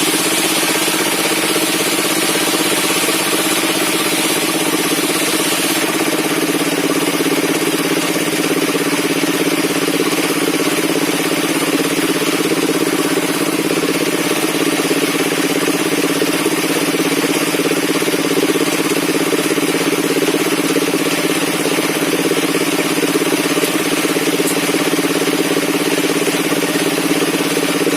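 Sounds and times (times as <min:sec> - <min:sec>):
sawmill machine droning: 0:00.0 - 0:27.9.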